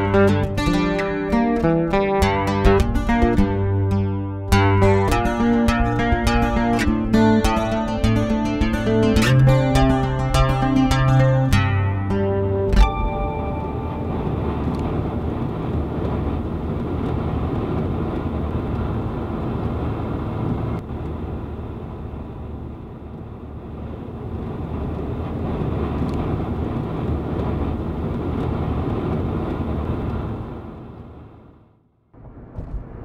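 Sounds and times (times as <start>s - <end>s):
vehicle engine and road rumble: 0.0s - 33.0s.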